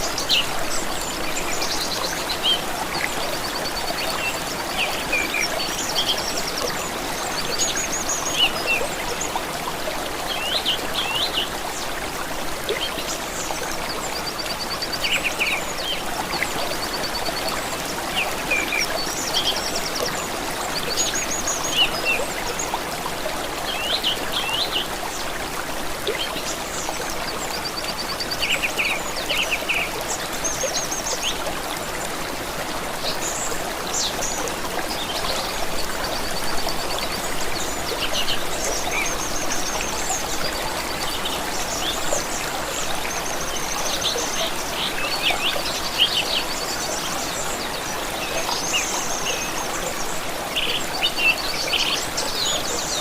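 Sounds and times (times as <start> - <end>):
stream trickling: 0.0 - 53.0.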